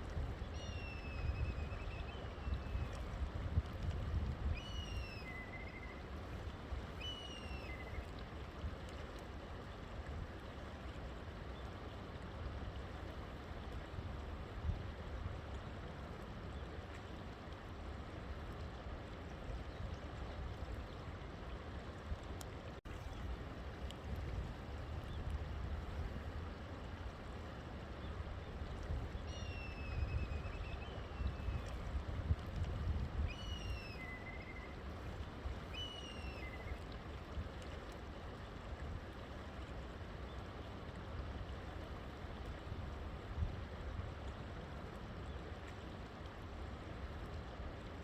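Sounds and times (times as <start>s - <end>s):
river water flowing: 0.0s - 48.0s.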